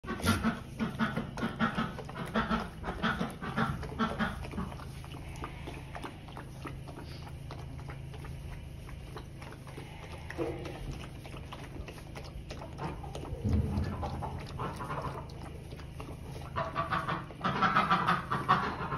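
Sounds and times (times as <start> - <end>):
puppy lapping water: 0.0 - 18.9
steady low hum: 0.0 - 18.9.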